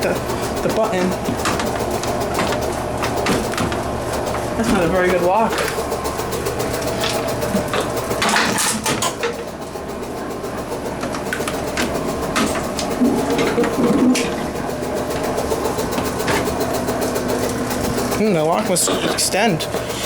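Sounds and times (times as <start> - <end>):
vending machine humming: 0.0 - 20.0.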